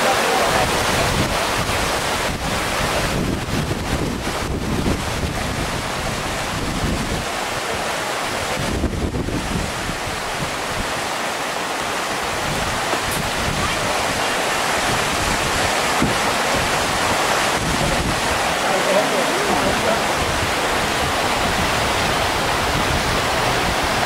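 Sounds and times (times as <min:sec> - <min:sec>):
wind rumbling on microphone: 0:00.0 - 0:11.2, 0:12.0 - 0:18.8, 0:19.4 - 0:24.0
whitewater rapids rushing: 0:00.0 - 0:24.0.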